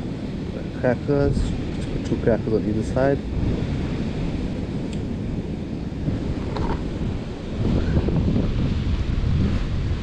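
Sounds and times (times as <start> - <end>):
surf breaking on the beach: 0.0 - 10.0
wind buffeting the microphone: 0.0 - 10.0.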